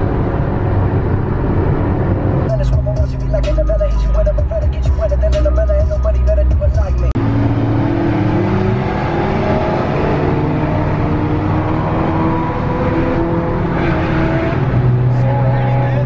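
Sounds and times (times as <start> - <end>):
car engine pulling steadily: 0.0 - 16.0
tyre and road noise: 0.0 - 16.0.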